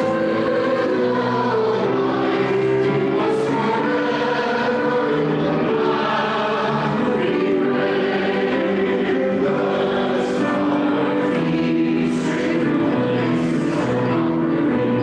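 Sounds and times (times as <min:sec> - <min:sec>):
congregation singing a hymn: 0:00.0 - 0:15.0.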